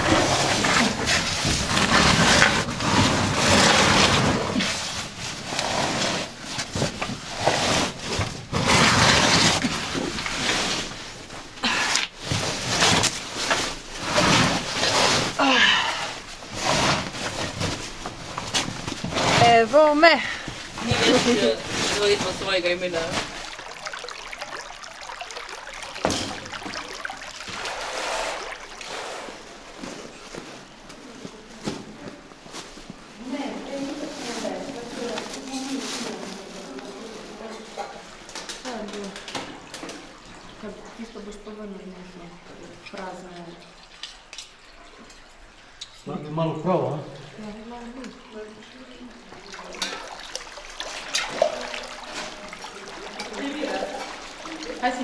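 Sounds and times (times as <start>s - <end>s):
stream trickling over rock: 6.3s - 31.1s, 33.8s - 55.0s.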